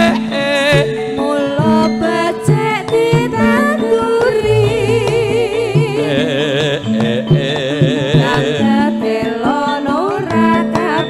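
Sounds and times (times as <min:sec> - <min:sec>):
melody with wavering vibrato: 0:00.0 - 0:11.0.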